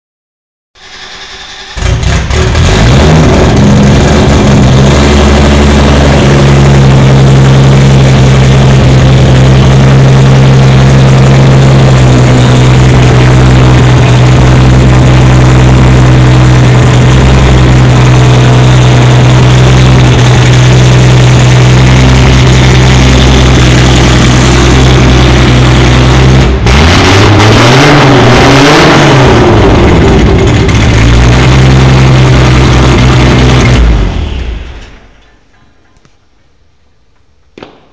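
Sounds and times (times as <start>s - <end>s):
engine revving: 0.8s - 35.0s
car engine idling loudly: 0.8s - 35.4s.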